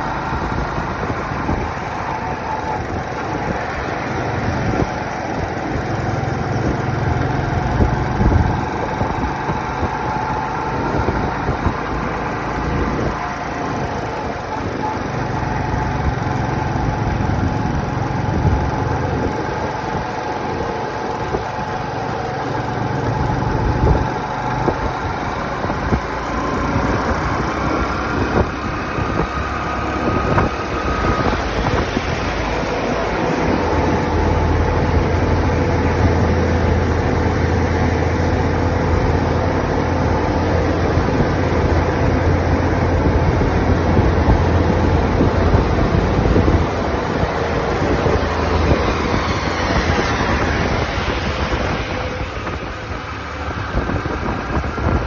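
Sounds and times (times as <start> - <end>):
motorcycle engine running: 0.0 - 55.0
road noise: 0.0 - 55.0
rushing wind: 0.0 - 55.0.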